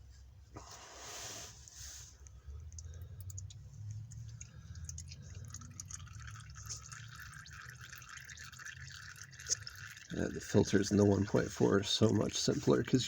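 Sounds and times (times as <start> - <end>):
low steady rumble: 0.0 - 13.0
oil dripping into a pan: 2.2 - 13.0.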